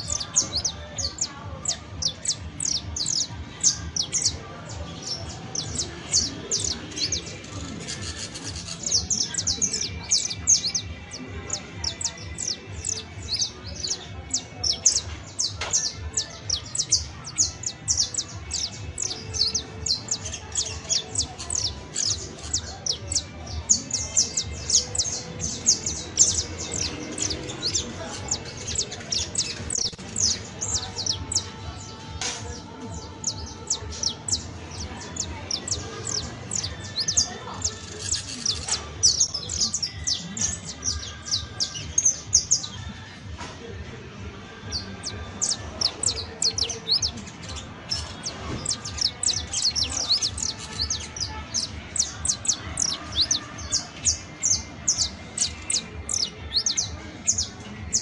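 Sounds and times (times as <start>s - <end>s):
finch singing high notes: 0.0s - 42.8s, 44.7s - 58.0s.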